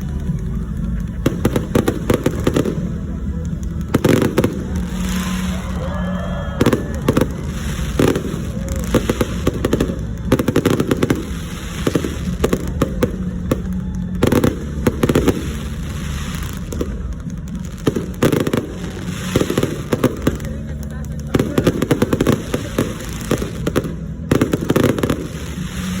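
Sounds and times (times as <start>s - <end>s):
fireworks bangs and crackling: 0.0s - 26.0s
steady low rumble: 0.0s - 26.0s.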